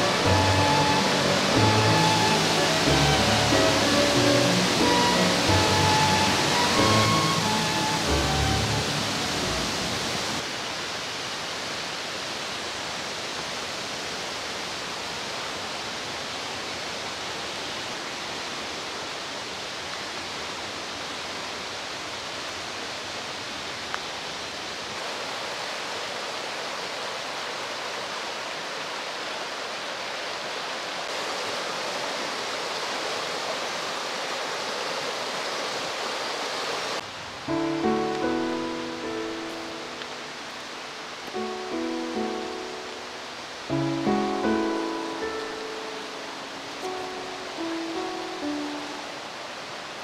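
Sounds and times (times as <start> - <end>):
water rushing in stream: 0.0 - 50.0.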